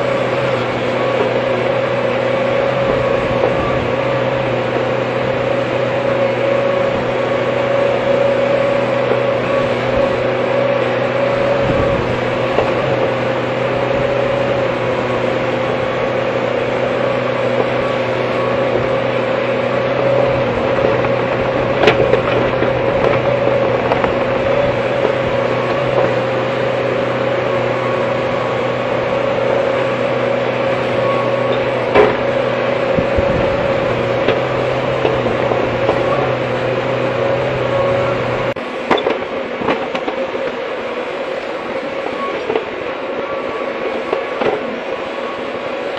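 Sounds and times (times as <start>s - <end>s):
excavator diesel engine hum: 0.0s - 45.9s.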